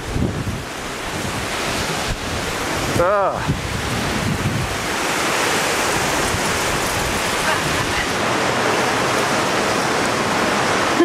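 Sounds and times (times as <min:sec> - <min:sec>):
wind buffeting microphone: 0:00.0 - 0:10.8
strong wind through trees: 0:00.0 - 0:11.0.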